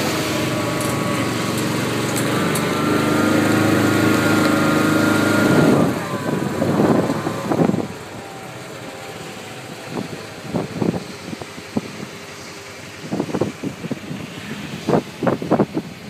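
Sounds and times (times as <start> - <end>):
utility vehicle engine running: 0.0 - 16.0.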